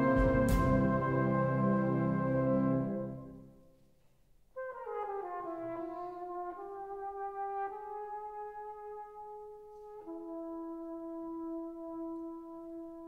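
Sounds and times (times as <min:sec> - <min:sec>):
solo flugelhorn melody: 0:00.0 - 0:03.7, 0:04.5 - 0:13.0.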